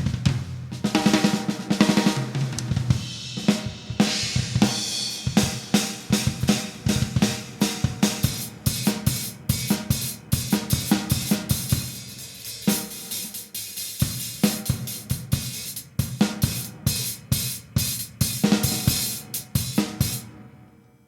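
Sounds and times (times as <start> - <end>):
drum kit playing a beat: 0.0 - 20.4
cymbals ringing: 2.9 - 20.3.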